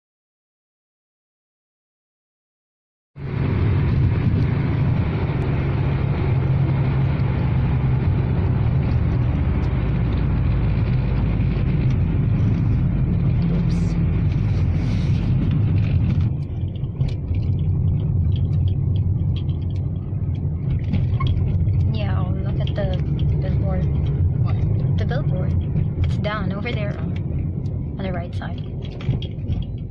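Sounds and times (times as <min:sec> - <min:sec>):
tyre and engine rumble: 0:03.2 - 0:29.9.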